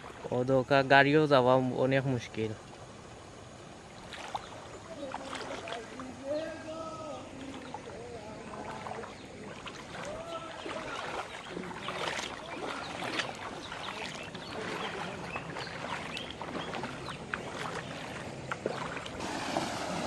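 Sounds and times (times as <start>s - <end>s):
floodwater sloshing and lapping: 0.0s - 1.0s, 2.2s - 20.0s
small splashes and knocks: 3.9s - 20.0s.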